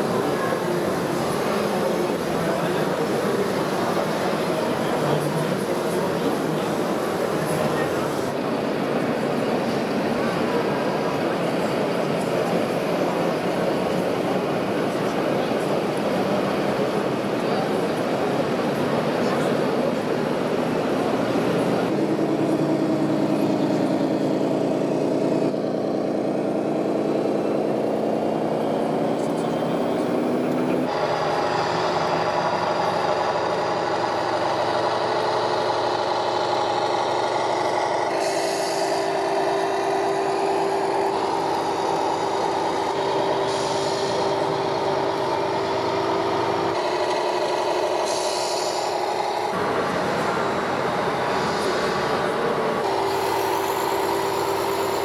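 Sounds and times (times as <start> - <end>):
simulated truck engine: 0.0 - 55.0.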